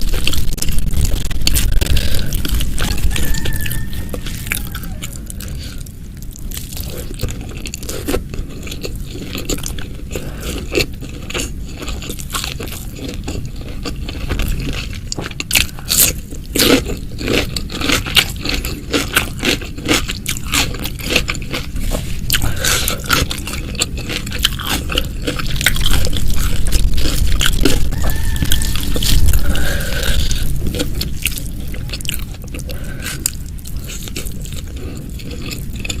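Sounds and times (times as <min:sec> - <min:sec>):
person chewing crunchy food: 0:00.0 - 0:36.0.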